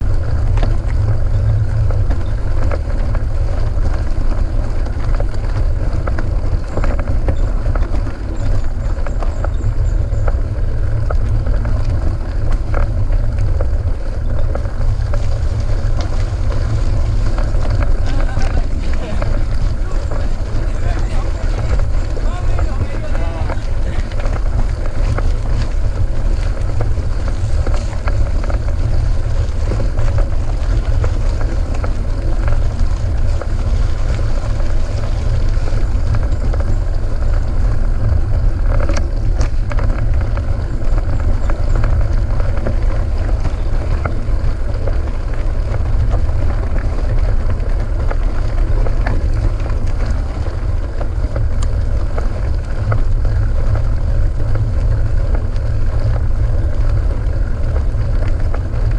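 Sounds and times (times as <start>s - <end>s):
bike clicks and rattles: 0.0s - 58.9s
bike tyre noise: 0.0s - 58.9s
wind rumbling on microphone: 0.0s - 58.9s.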